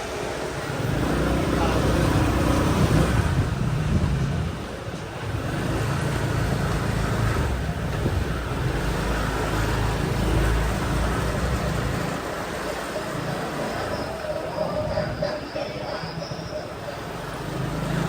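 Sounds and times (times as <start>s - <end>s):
moped engine: 0.0s - 18.0s
road traffic: 0.0s - 18.0s.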